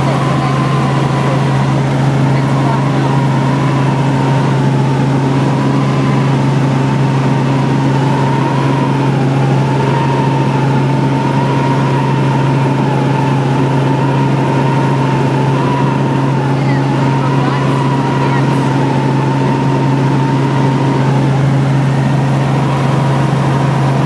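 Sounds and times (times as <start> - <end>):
helicopter engine and rotors: 0.0 - 24.0.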